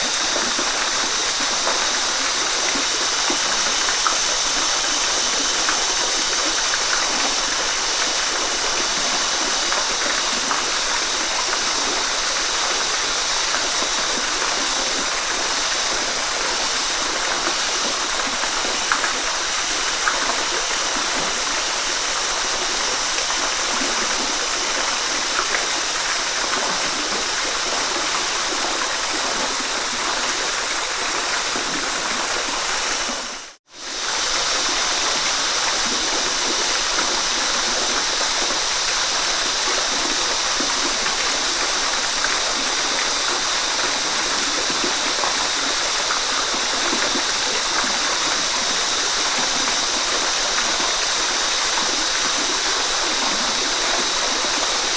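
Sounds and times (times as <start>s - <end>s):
water splashes and drips: 0.0s - 54.9s
waterfall and stream rushing: 0.0s - 54.9s.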